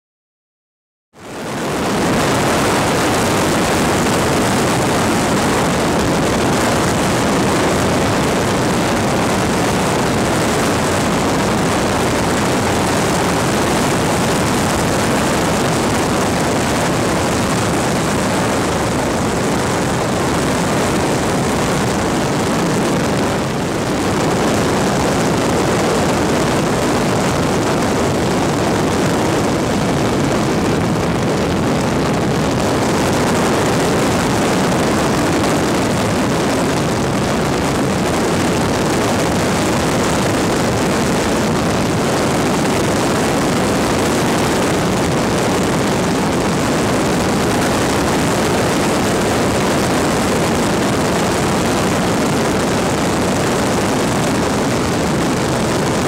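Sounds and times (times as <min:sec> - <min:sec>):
loud engine drone: 0:01.2 - 0:56.0
rushing noise: 0:01.2 - 0:56.0.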